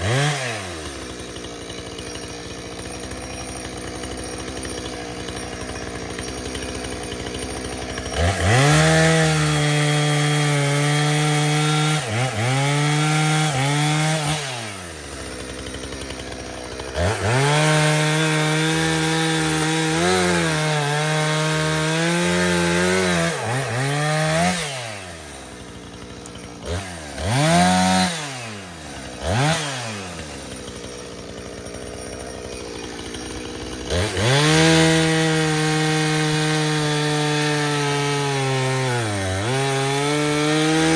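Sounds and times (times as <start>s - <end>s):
chainsaw cutting and revving: 0.0s - 40.9s.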